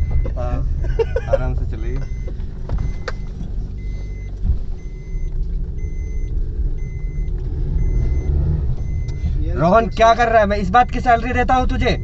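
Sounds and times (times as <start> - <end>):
car engine and road rumble: 0.0 - 12.0
faint beep: 2.0 - 12.0.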